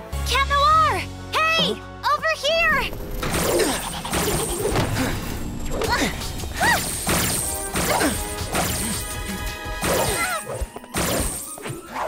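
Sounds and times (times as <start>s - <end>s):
dramatic music: 0.0s - 12.0s.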